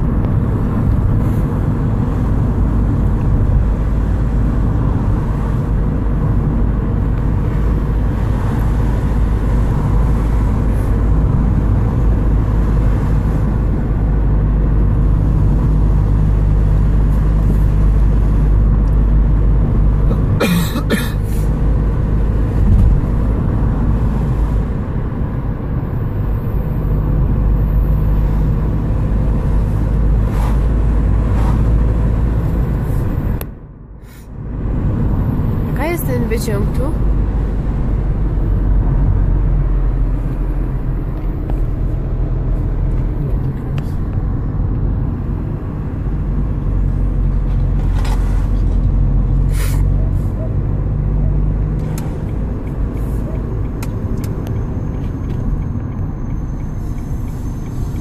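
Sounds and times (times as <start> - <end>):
car engine rumble: 0.0 - 58.0
tyres on asphalt: 0.0 - 58.0.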